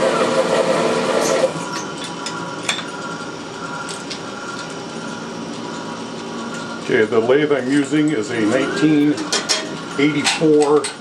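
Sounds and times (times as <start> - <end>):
faint machine hum: 0.0 - 11.0.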